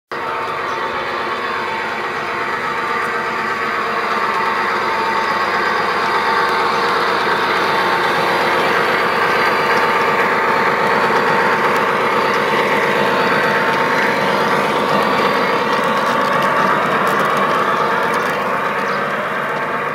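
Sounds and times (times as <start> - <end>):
model train running: 0.1 - 19.9.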